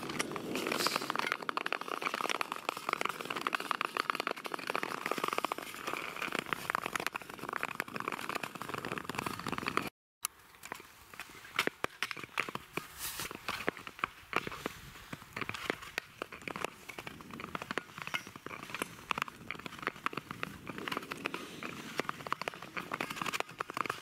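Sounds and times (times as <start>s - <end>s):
ice skates scraping on ice: 0.0s - 9.9s, 10.6s - 24.0s.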